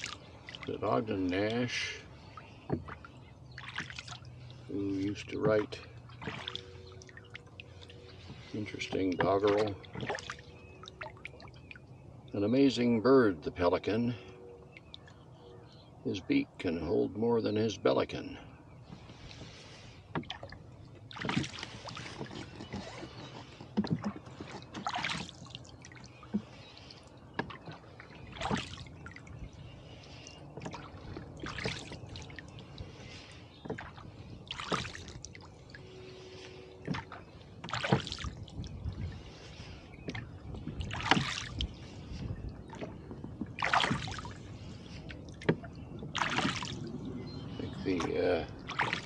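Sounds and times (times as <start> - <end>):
light knocks of oars: 0.0 - 12.8, 17.7 - 49.0
oars splashing through water: 0.0 - 16.0, 18.0 - 49.0.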